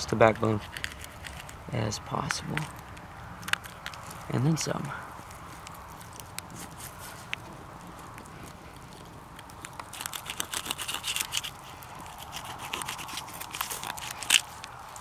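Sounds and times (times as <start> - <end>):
crackling scrapes and clicks: 0.0 - 15.0.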